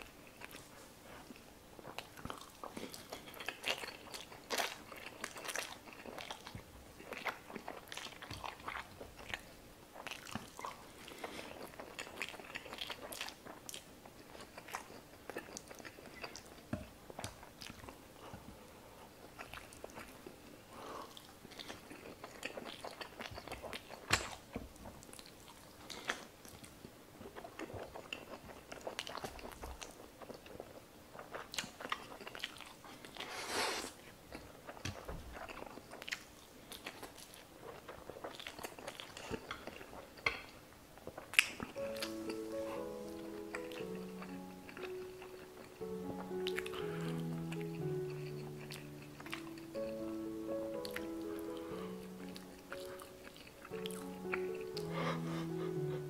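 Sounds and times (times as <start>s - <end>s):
chewing and slurping noodles: 0.0s - 18.5s, 19.2s - 40.3s, 41.0s - 56.0s.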